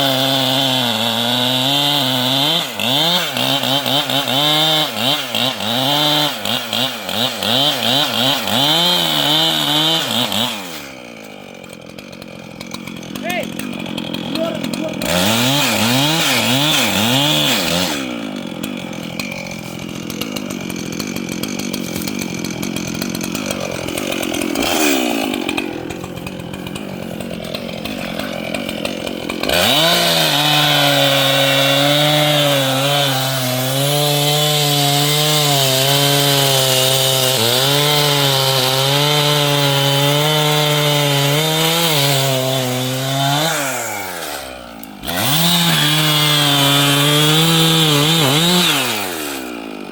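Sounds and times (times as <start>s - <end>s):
chainsaw cutting wood: 0.0s - 49.9s
chainsaw revving: 0.0s - 49.9s.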